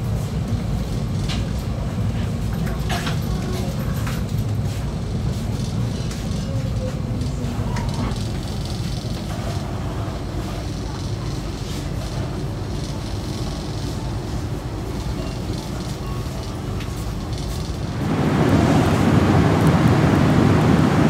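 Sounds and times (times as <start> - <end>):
low rumble inside train coach: 0.0 - 21.0
faint passenger voices: 0.1 - 19.6.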